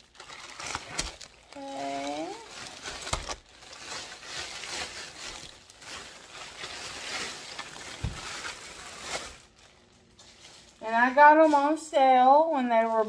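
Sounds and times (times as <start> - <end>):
plastic packages crinkling: 0.0 - 13.0.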